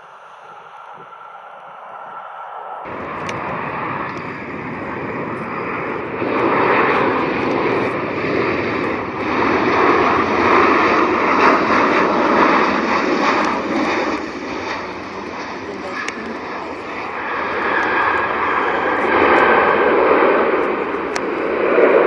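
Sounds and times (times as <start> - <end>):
jet engines passing: 0.0 - 22.0.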